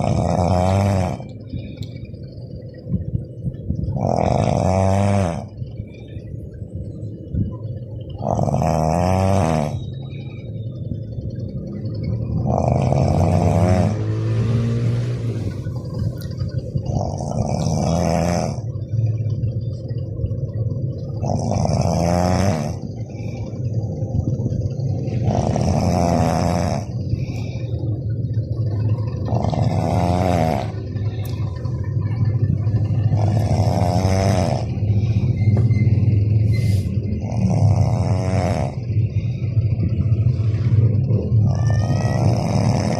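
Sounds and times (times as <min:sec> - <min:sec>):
rattling snore: 0:00.0 - 0:01.9, 0:03.8 - 0:05.6, 0:08.2 - 0:10.2, 0:11.7 - 0:19.8, 0:21.0 - 0:42.9
low rumble: 0:00.0 - 0:42.9.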